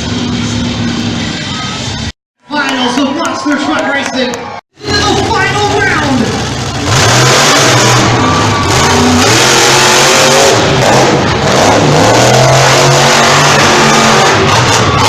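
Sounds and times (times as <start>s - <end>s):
monster truck engines revving: 0.0s - 2.1s, 4.8s - 15.0s.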